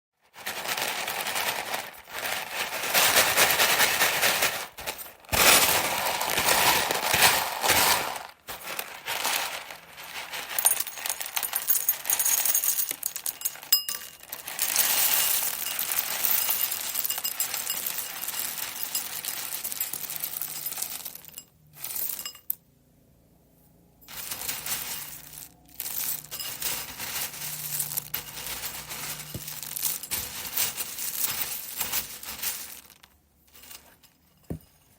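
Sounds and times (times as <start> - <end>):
dry food pieces rattling: 0.4 - 21.3, 24.1 - 33.8.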